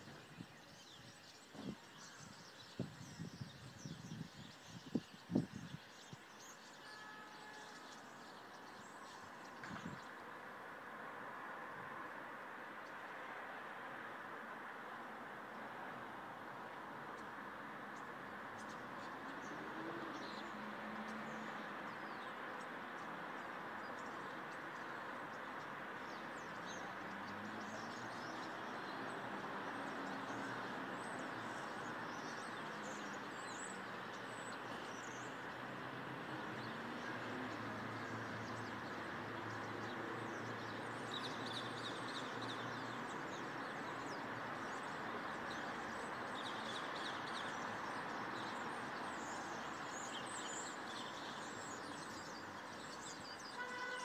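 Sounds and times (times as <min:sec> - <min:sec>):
steady outdoor background noise: 0:00.0 - 0:54.0.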